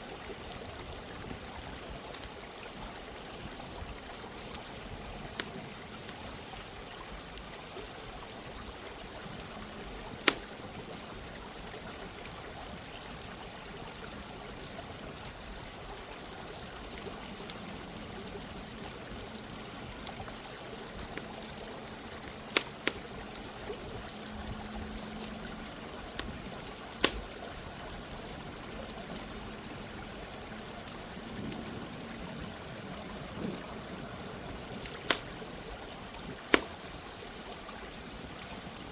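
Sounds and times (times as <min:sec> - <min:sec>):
running water: 0:00.0 - 0:38.9
campfire crackling and popping: 0:00.2 - 0:02.7, 0:03.4 - 0:07.0, 0:08.0 - 0:38.9.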